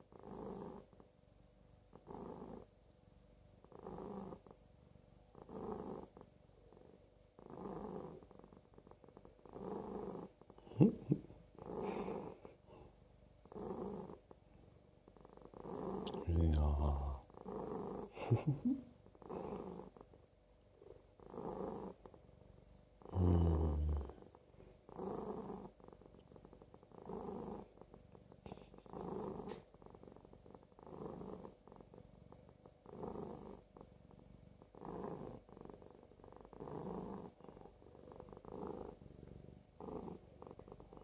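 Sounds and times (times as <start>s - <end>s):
cat purring: 0.0s - 41.0s.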